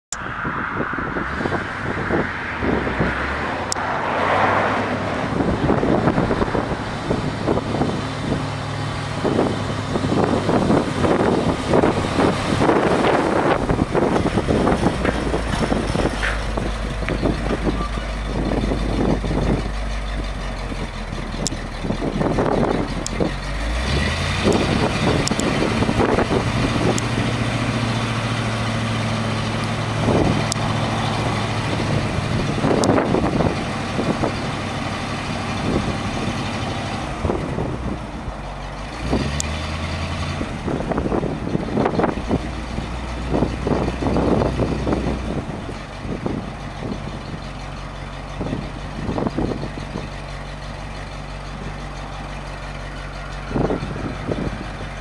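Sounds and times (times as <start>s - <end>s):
truck engine running and idling: 0.1s - 55.0s
engine revving for hydraulic hoist: 1.1s - 55.0s.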